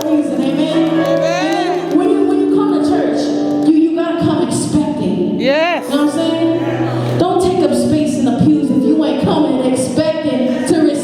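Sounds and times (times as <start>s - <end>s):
held chords: 0.0s - 10.8s.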